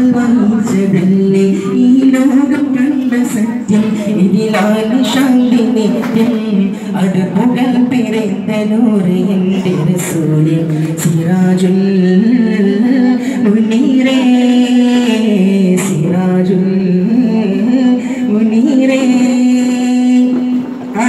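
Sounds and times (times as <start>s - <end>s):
man singing into microphone: 0.0s - 21.0s.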